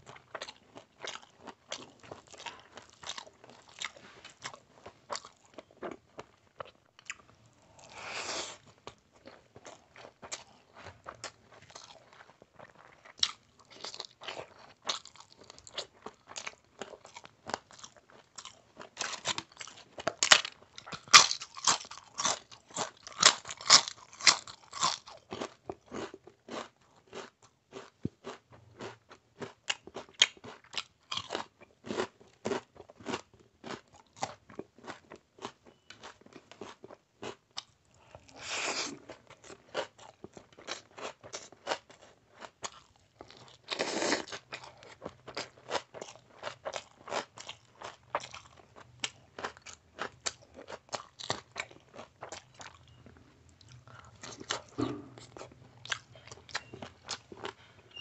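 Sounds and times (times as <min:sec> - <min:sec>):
chewing and crunching food: 0:00.0 - 0:57.9.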